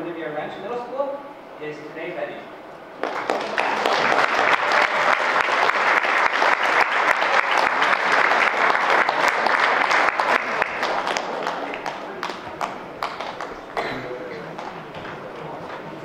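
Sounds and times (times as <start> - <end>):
audience applauding: 3.0 - 16.0.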